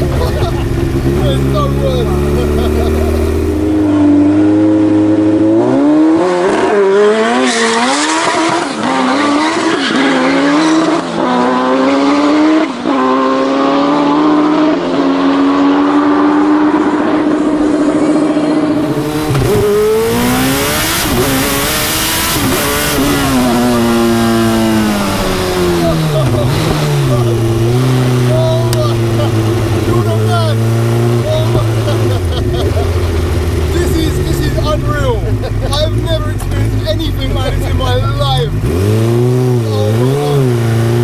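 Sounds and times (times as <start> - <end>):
engine revving through gear changes: 0.0 - 41.0.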